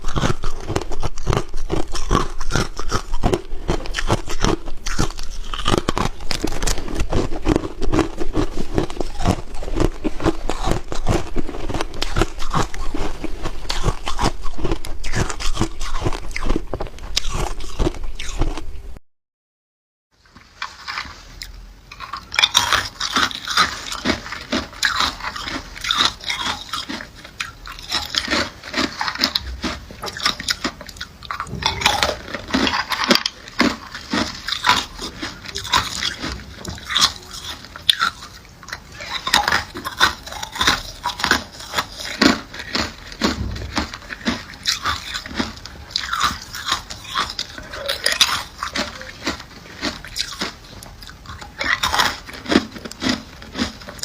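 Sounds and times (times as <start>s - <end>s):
person chewing ice: 0.0s - 18.8s, 20.3s - 54.0s.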